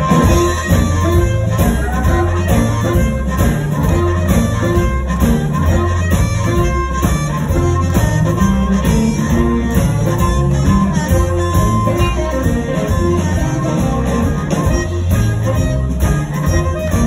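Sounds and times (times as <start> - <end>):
blues band playing: 0.0 - 17.0
harmonica lead: 0.0 - 17.0.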